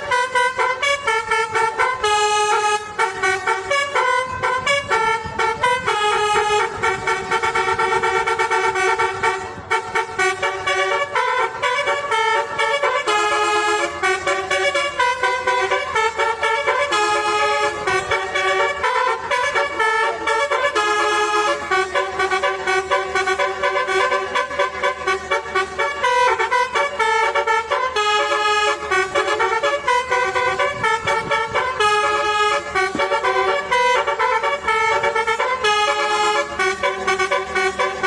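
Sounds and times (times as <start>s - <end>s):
multi-tone bus horn tune: 0.0s - 38.0s.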